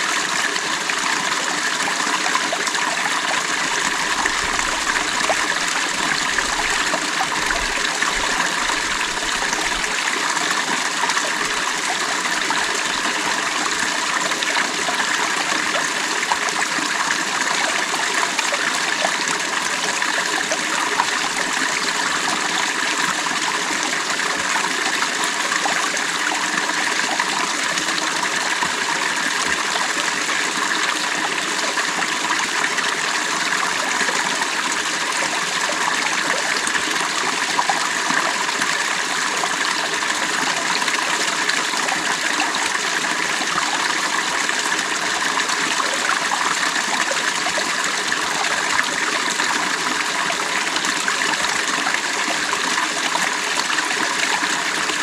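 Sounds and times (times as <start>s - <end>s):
creek water running over stones: 0.0s - 55.0s.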